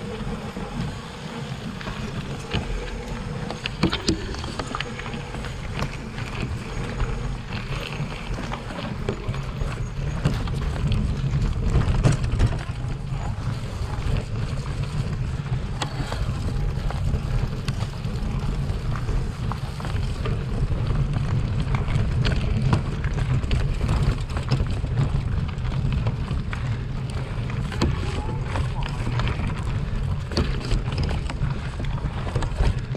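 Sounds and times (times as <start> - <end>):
bike rattling over stones: 0.0 - 32.9.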